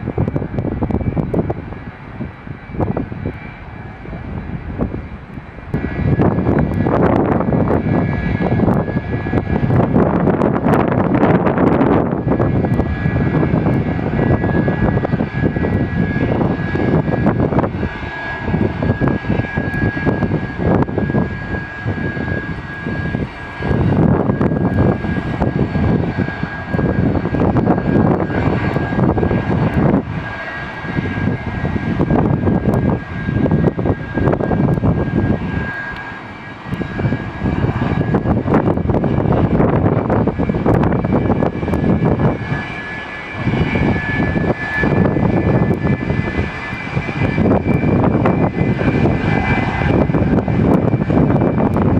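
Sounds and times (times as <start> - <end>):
airliner engines running: 0.0 - 51.9.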